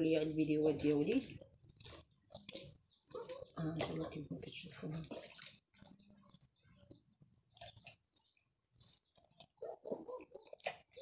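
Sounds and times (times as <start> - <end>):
hands squelching wet marinade: 0.0 - 11.0.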